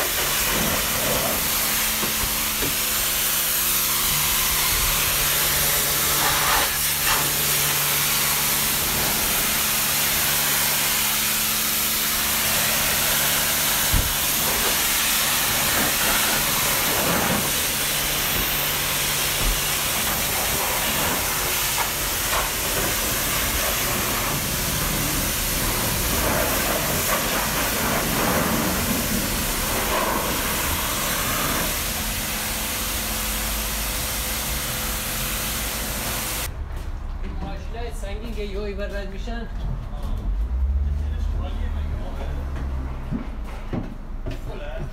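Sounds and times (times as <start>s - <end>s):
pressure washer spraying water: 0.0s - 36.5s.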